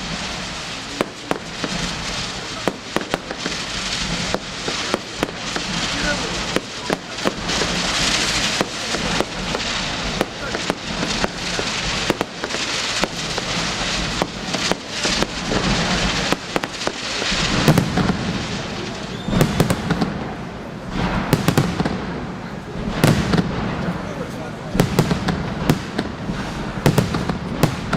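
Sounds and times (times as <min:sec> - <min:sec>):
continuous fireworks hiss: 0:00.0 - 0:27.9
fireworks bangs and crackles: 0:00.0 - 0:27.9
low firework bursts: 0:00.0 - 0:27.9.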